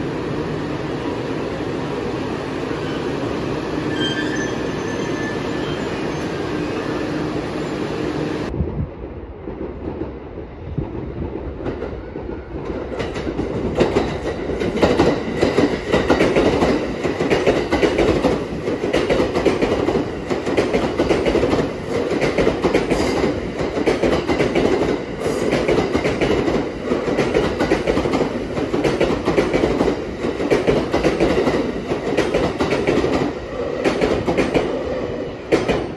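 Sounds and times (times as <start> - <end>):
electric train rumbling on rails: 0.0 - 35.9.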